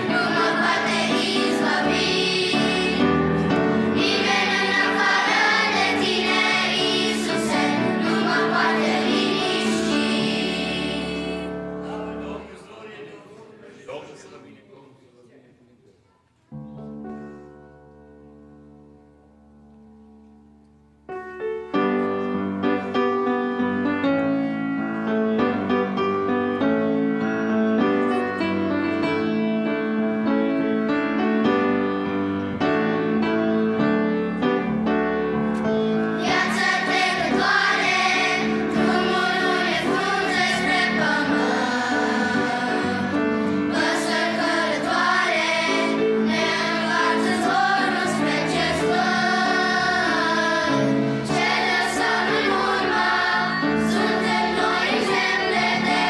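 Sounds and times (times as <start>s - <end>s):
grand piano playing: 0.0s - 13.1s, 16.5s - 56.0s
children's choir singing a hymn: 0.0s - 14.5s, 22.1s - 56.0s.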